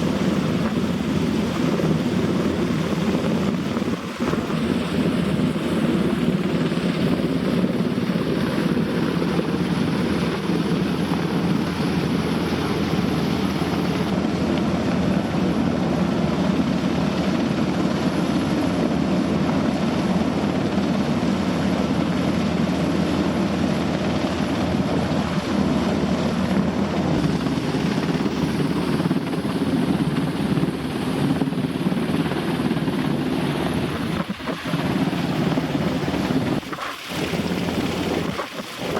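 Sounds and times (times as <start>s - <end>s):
helicopter rotors and turbines: 0.0s - 38.9s.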